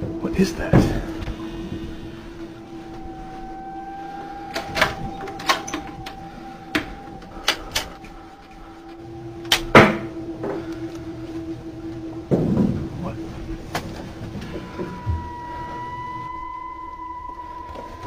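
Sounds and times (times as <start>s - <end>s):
steady low hum: 0.0s - 18.0s
door opening: 0.7s - 18.0s.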